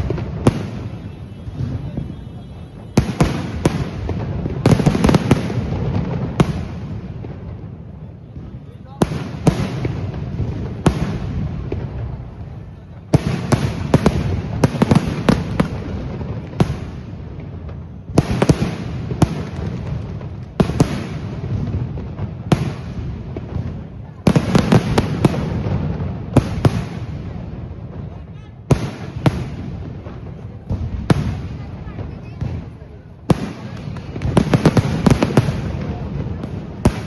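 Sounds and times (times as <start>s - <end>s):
background murmur: 0.0s - 37.0s
fireworks exploding: 0.0s - 37.0s.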